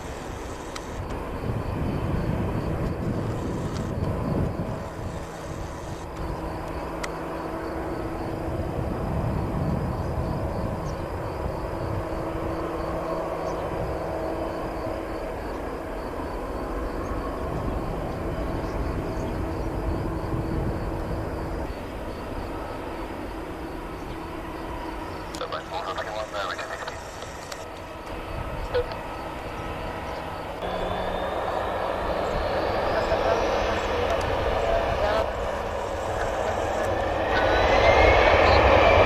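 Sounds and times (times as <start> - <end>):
jet engines at taxi power: 0.0 - 39.0.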